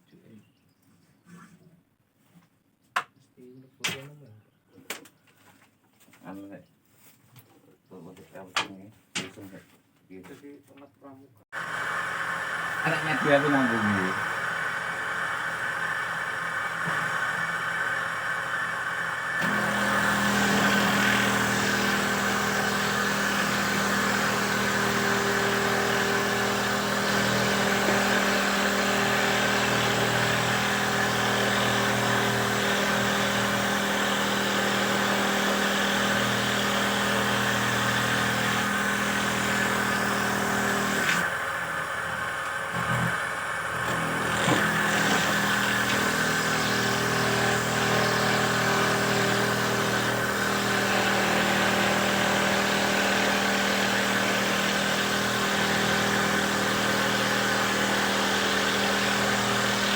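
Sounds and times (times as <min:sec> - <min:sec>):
machine motor humming and whirring: 0:11.6 - 0:59.9.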